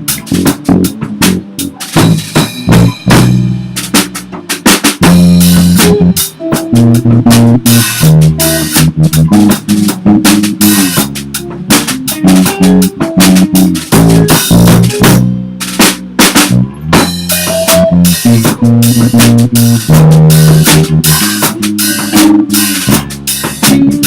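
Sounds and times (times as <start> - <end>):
bass and guitar: 0.0 - 24.0
drum kit beat: 0.0 - 24.0.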